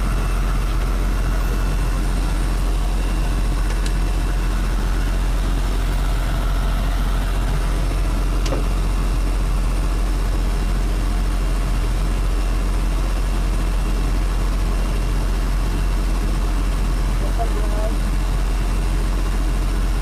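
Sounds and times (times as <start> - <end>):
low aircraft engine rumble: 0.0 - 20.0.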